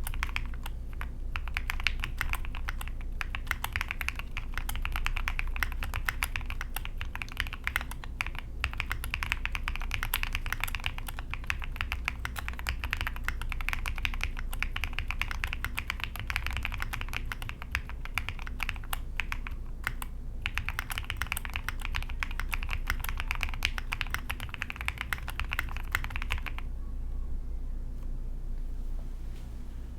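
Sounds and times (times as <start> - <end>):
mechanical keyboard typing: 0.0 - 26.6.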